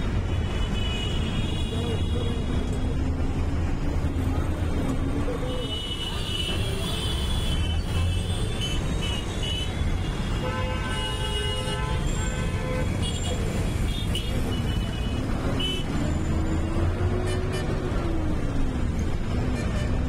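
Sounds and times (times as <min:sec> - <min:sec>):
bus rumbling on road: 0:00.0 - 0:20.0.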